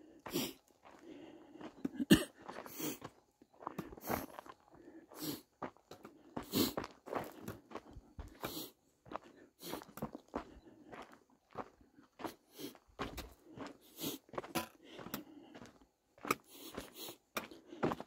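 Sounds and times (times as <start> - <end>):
footsteps on dirt and loose rock: 0.2 - 18.0.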